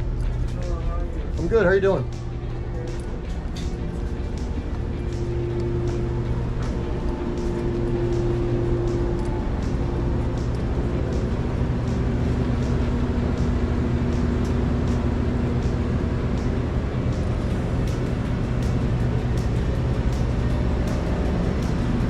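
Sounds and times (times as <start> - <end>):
background music with beat: 0.0 - 22.0
low hum of shop ambience: 0.0 - 22.0.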